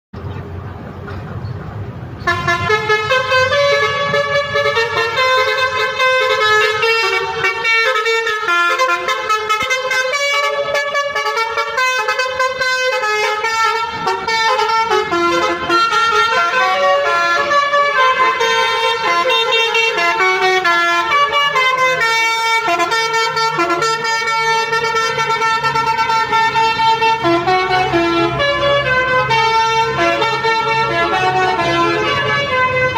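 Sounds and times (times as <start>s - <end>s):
musical horn playing melody: 2.3s - 32.9s.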